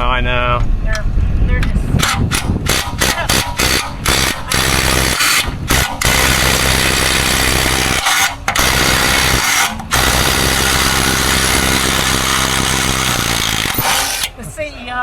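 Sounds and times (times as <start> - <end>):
impact drill running: 2.0 - 14.4.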